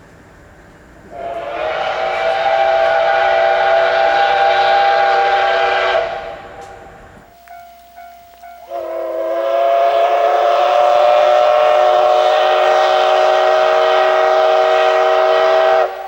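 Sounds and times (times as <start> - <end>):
steam locomotive chime whistle: 1.1 - 16.0.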